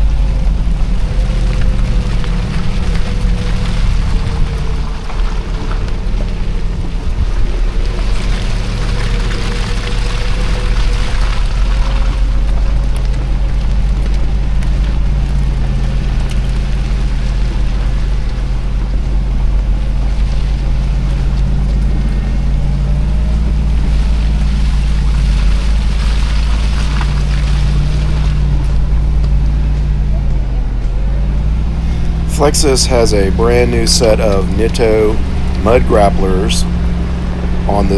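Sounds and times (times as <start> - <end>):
car engine and road drone: 0.0 - 37.9.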